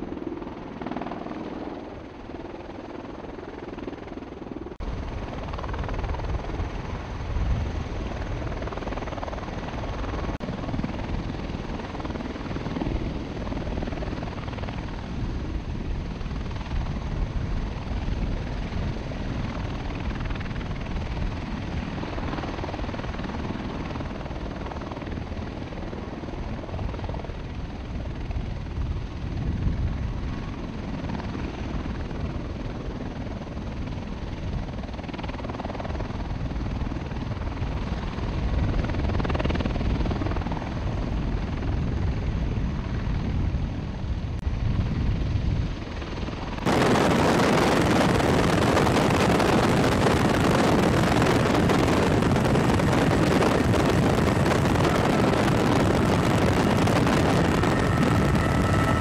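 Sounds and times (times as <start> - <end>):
aircraft rotor and turbine noise: 0.0 - 59.0.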